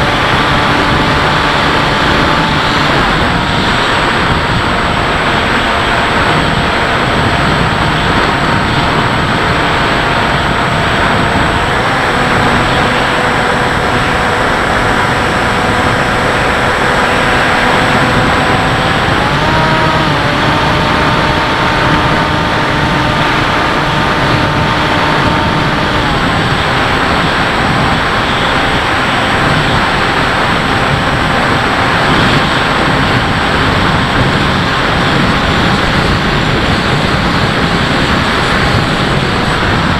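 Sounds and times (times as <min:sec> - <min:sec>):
electric motor whine: 0:00.0 - 0:39.9
wind rush over airframe: 0:00.0 - 0:39.9.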